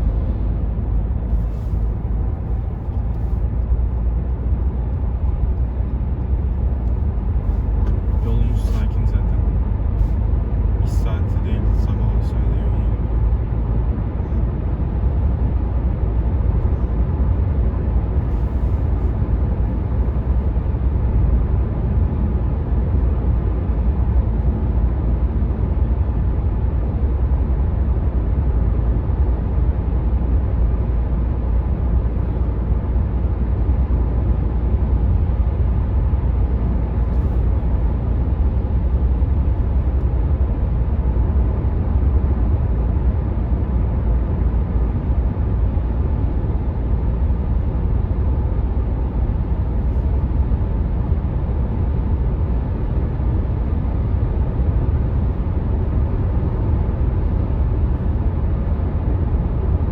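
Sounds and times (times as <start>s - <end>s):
tyres rumbling on road: 0.0s - 59.8s.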